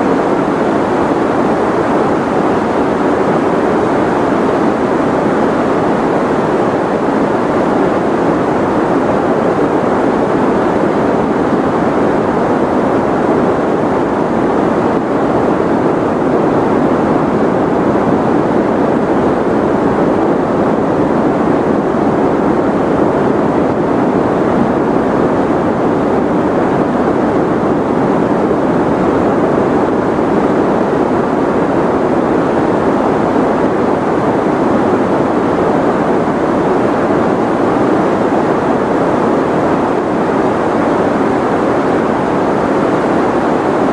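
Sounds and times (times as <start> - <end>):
white noise hiss: 0.0 - 43.9.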